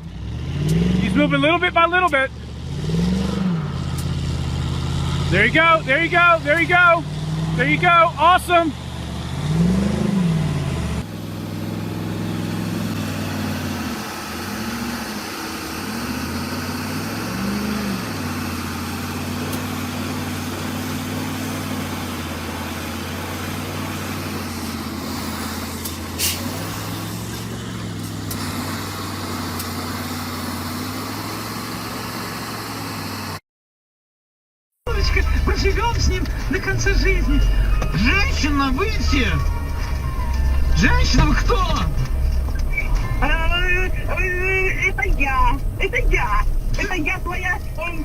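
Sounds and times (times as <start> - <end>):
heavy vehicle engine revving: 0.0 - 33.4, 34.9 - 48.0.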